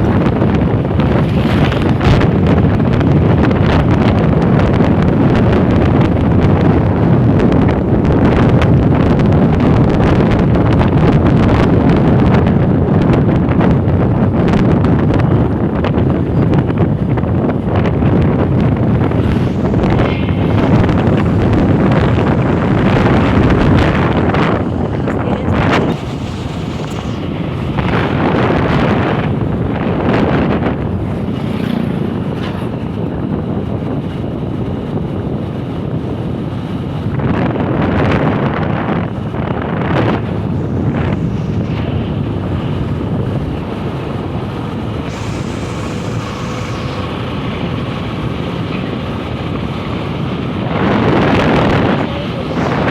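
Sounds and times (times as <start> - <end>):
wind rumbling on microphone: 0.0 - 52.9.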